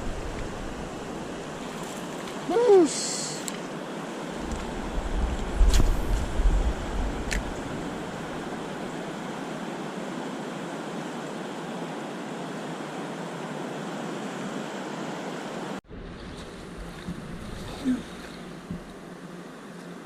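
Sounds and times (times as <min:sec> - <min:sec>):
wind and river water rushing: 0:00.0 - 0:20.0.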